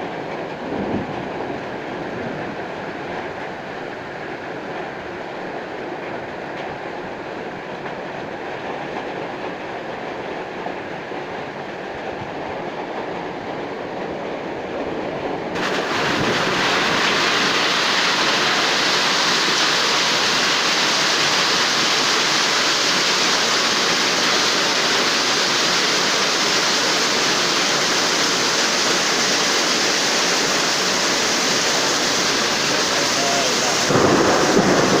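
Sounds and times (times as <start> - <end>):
heavy rain in strong wind: 0.0 - 35.0.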